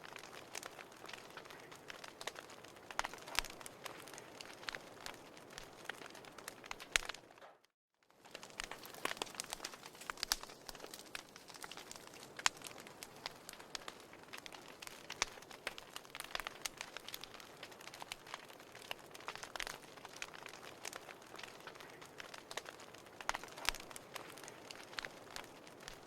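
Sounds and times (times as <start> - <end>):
firewood crackling: 0.0 - 26.0.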